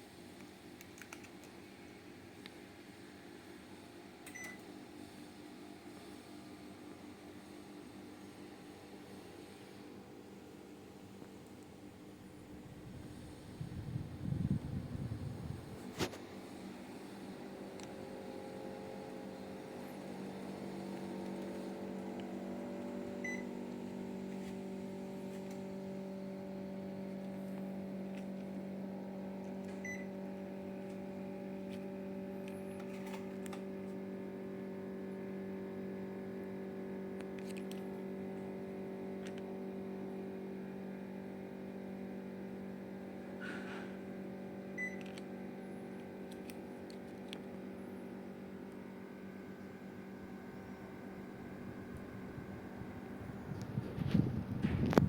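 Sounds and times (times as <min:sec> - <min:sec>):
air conditioner humming: 0:00.0 - 0:55.0.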